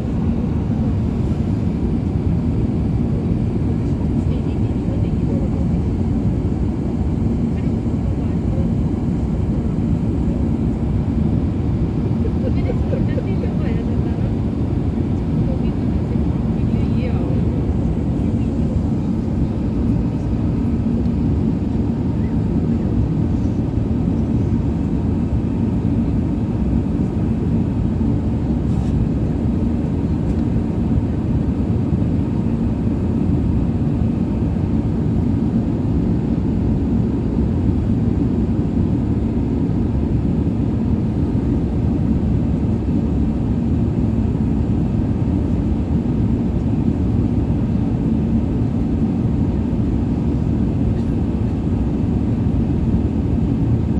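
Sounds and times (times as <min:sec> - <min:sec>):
jet engine cabin rumble: 0:00.0 - 0:53.9.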